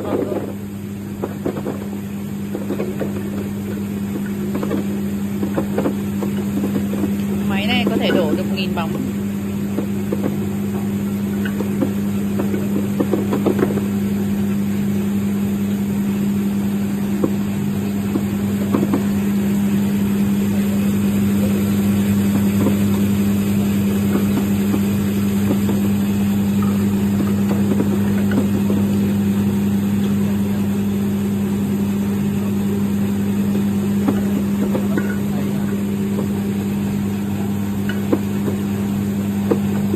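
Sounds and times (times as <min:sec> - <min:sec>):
electric motor hum: 0:00.0 - 0:39.9.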